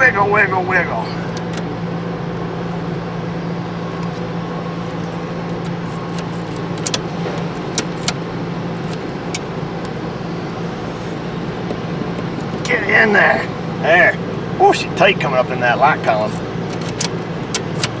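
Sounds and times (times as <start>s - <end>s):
machinery engine drone: 0.0s - 18.0s.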